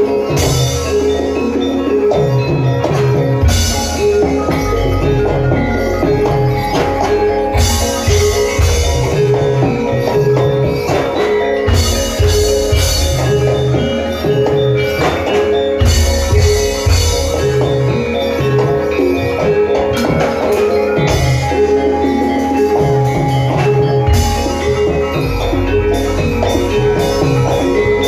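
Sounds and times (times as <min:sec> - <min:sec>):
drum strokes: 0:00.0 - 0:28.0
gamelan music: 0:00.0 - 0:28.0.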